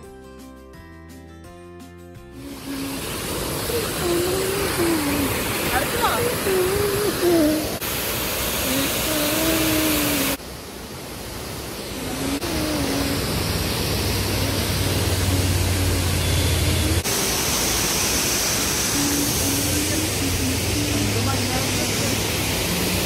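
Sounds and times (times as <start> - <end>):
waterfall rushing: 2.4 - 23.0.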